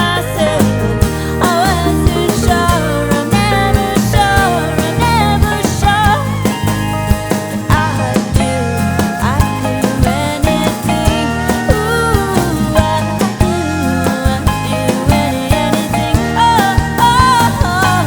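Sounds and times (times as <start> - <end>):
person singing: 0.0 - 6.9, 7.6 - 18.0
country band playing: 0.0 - 18.0
guitars: 0.0 - 18.0
sliding melody line: 0.0 - 18.0
steady drum beat: 0.0 - 18.0.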